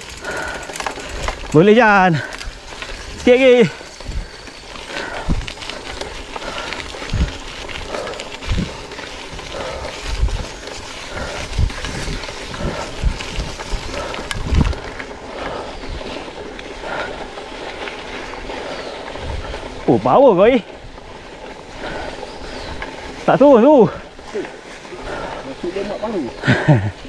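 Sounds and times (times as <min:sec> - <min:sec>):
low thumps of bike: 0:00.0 - 0:26.5
bike tyres and frame rattling: 0:00.0 - 0:27.0.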